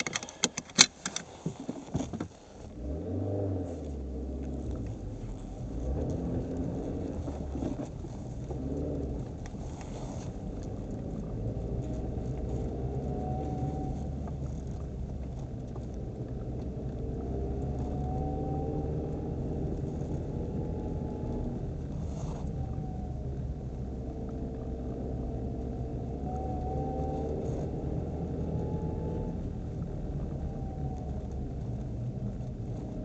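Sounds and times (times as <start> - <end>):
car running rumble: 0.0 - 33.0.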